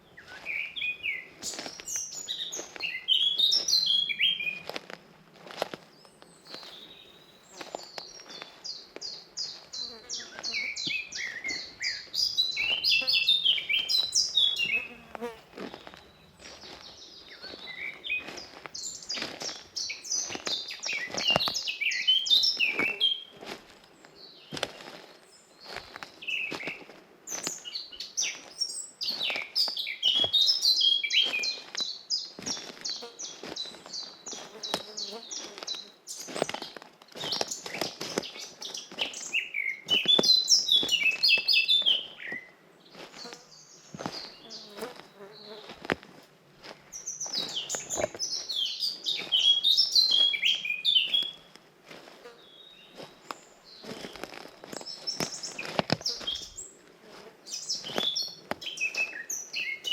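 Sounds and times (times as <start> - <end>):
forest birds singing: 0.0 - 4.9, 5.5 - 45.9, 46.6 - 51.6, 52.3 - 59.9
soft footsteps on forest path: 0.0 - 59.9.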